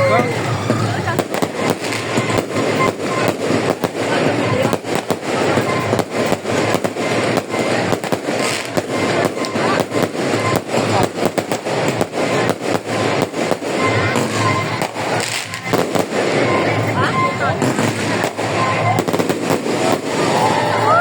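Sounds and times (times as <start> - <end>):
fireworks cracking and banging: 0.0 - 21.0.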